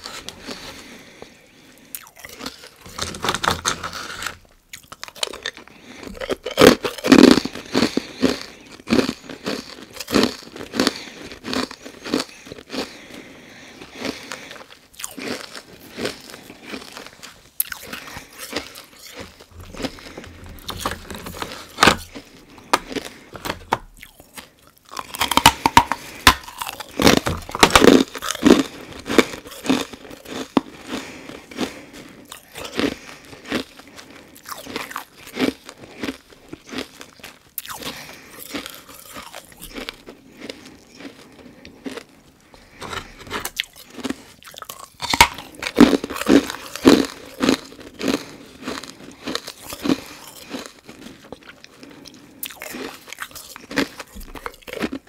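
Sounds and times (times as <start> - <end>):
ice being bitten and chewed: 0.0 - 55.0.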